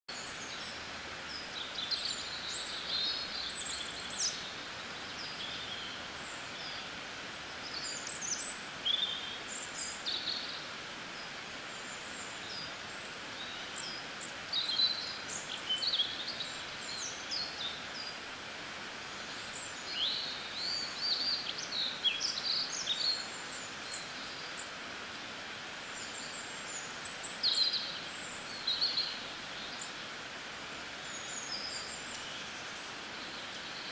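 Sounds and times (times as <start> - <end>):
birds chirping and twittering: 0.1 - 33.9
steady background hiss: 0.1 - 33.9.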